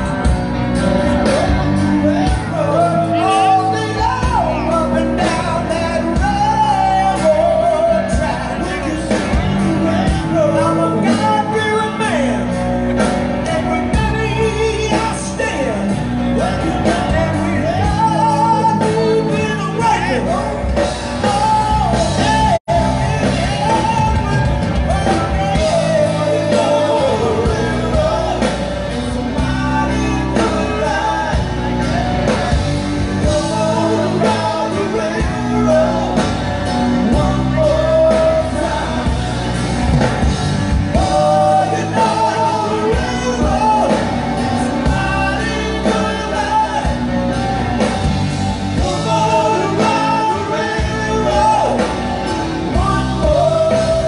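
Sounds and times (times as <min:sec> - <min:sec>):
lead singer: 0:00.0 - 0:54.0
live rock band: 0:00.0 - 0:54.0.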